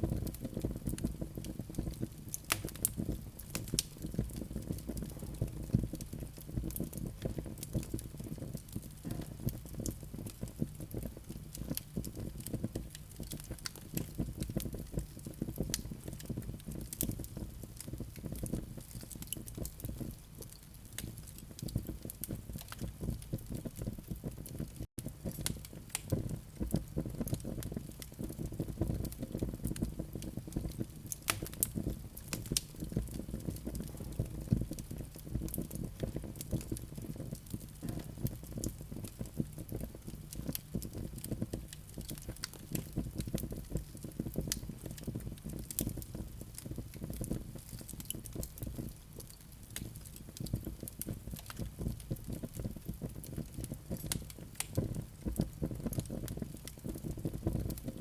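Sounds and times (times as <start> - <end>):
coals crackling: 0.0 - 58.0
low rumble of flames: 0.0 - 58.0.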